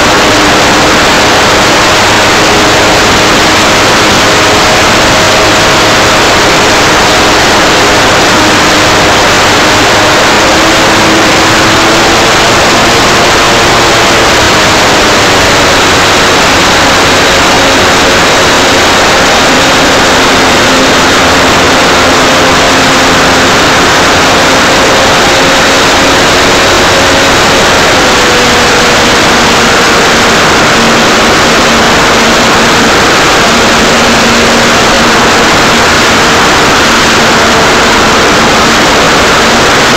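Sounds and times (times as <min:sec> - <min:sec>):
electric motor humming: 0:00.0 - 0:39.9
wind rush and prop wash: 0:00.0 - 0:39.9.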